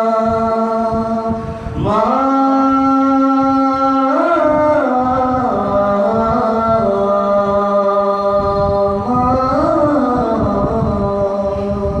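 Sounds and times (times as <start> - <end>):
man singing long held notes: 0.0 - 12.0.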